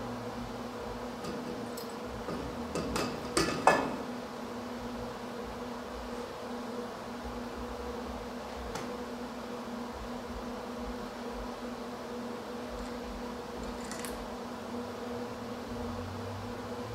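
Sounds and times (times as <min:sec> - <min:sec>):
low electrical buzzing hum: 0:00.0 - 0:16.9.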